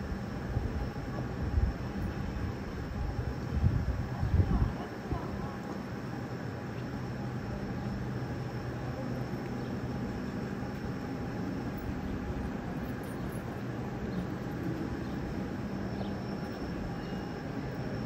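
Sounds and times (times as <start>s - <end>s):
ventilation fans humming: 0.0s - 18.0s.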